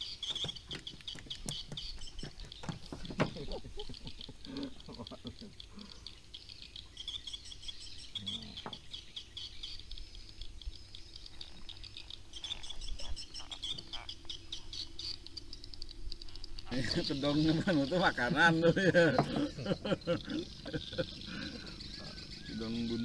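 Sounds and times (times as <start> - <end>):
faint low hum: 0.0 - 23.0
insects chirping: 0.0 - 23.0.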